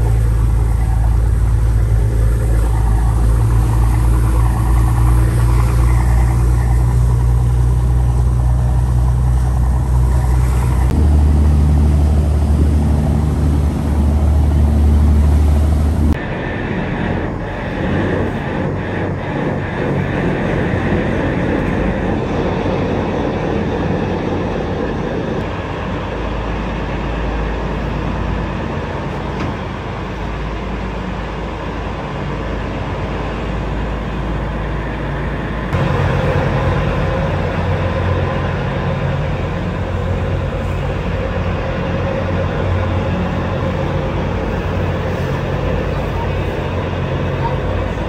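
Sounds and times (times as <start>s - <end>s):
dense travel noise: 0.0s - 48.0s
vehicle engine running: 0.0s - 48.0s.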